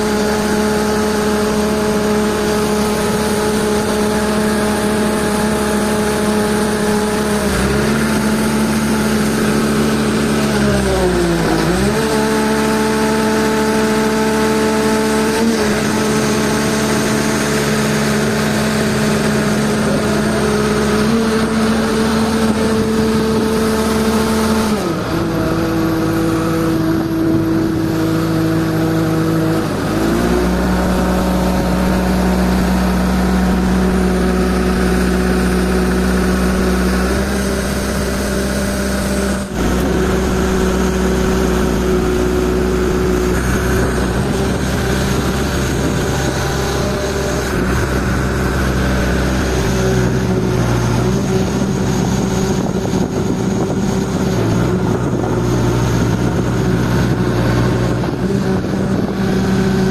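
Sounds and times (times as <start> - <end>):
crane diesel engines revving: 0.0 - 59.9.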